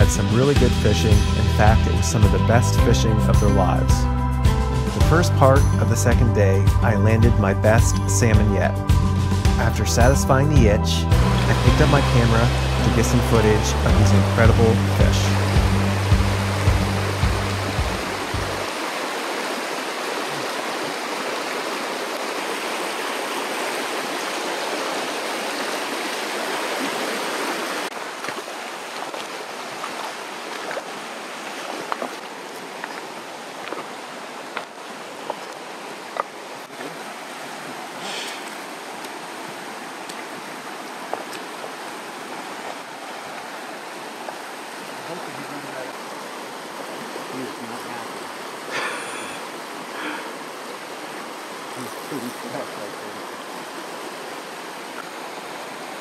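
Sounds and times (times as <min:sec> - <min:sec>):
river rapids rushing: 0:11.1 - 0:56.0.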